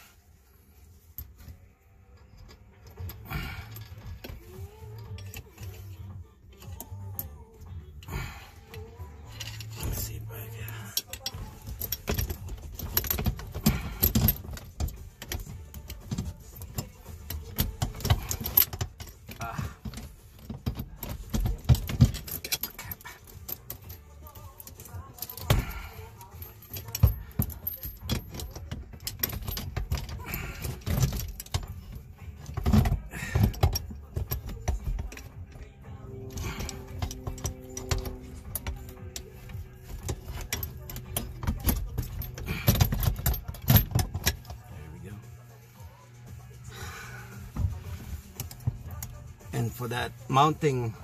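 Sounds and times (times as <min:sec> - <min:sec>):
low steady hum: 0:00.0 - 0:51.0
metal parts clinking and rattling: 0:00.1 - 0:51.0.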